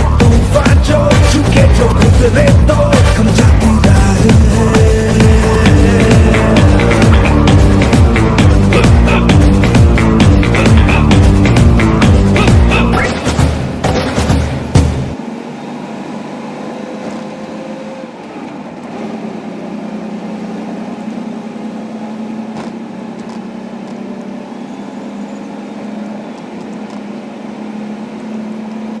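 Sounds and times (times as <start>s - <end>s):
truck engine humming: 0.0s - 29.0s.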